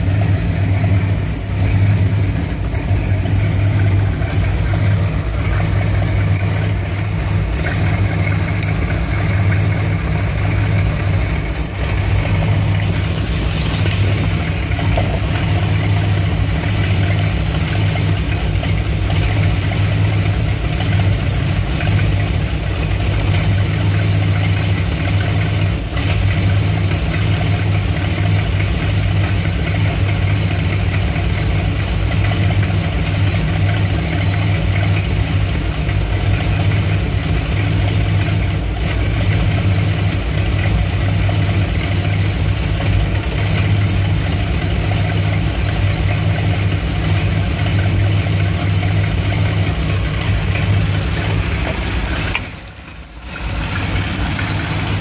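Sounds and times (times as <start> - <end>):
van engine idling roughly: 0.0 - 55.0.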